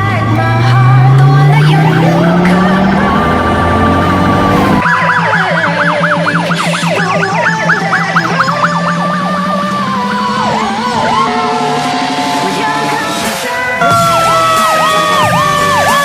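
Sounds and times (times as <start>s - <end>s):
electronic siren wail and yelp: 1.1s - 12.8s, 13.8s - 16.0s.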